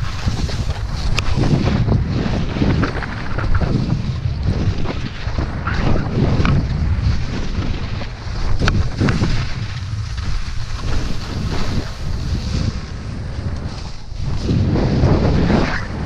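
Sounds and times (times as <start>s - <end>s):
skis swishing through snow: 0.0s - 16.0s
wind on microphone: 0.0s - 16.0s.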